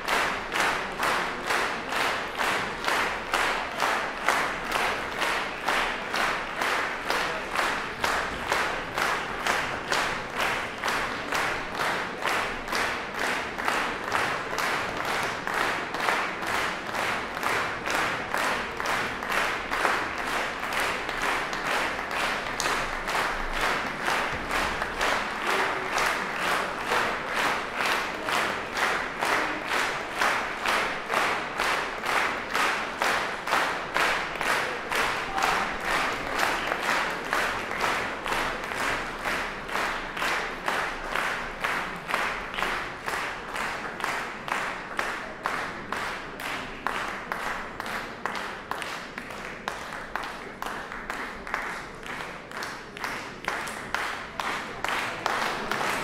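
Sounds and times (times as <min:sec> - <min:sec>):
audience clapping rhythmically: 0:00.0 - 0:56.0.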